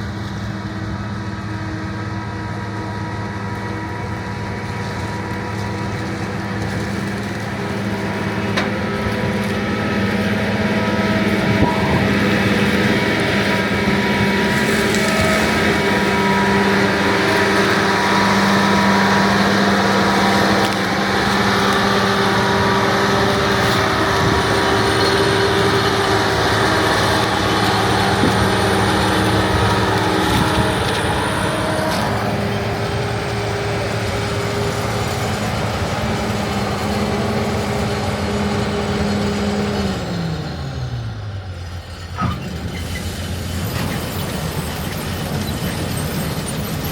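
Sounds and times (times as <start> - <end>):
farm machinery engine running: 0.0 - 46.9.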